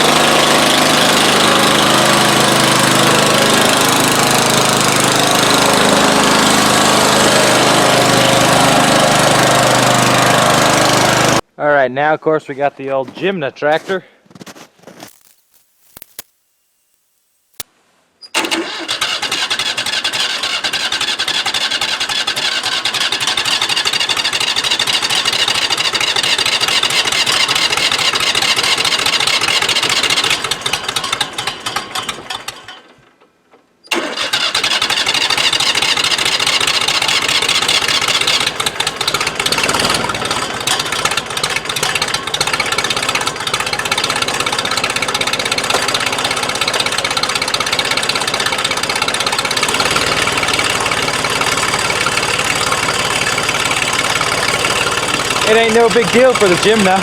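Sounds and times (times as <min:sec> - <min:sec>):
diesel tractor engine starting: 0:00.0 - 0:11.5, 0:18.3 - 0:57.0.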